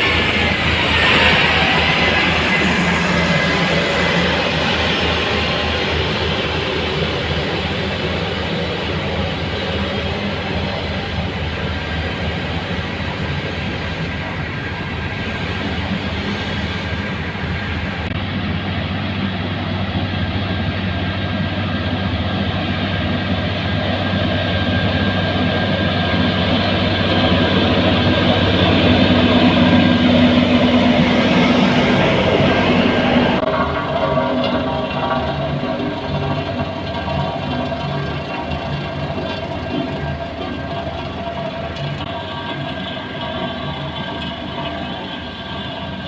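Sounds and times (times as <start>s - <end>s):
heavy machinery engine running: 0.0s - 46.0s.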